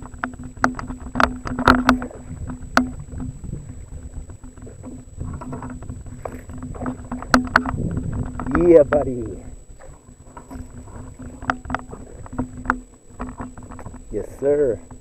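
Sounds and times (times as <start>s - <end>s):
gear knocking against kayak hull: 0.0s - 15.0s
steady low hum: 0.0s - 15.0s.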